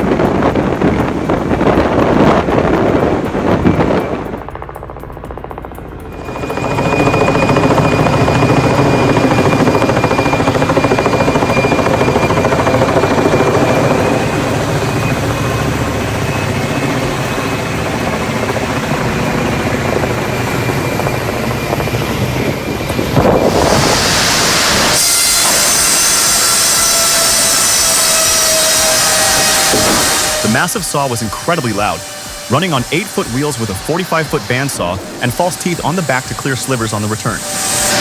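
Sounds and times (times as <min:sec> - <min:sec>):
high machine whine: 0:00.0 - 0:38.0
sawmill machinery rumble: 0:00.0 - 0:38.0.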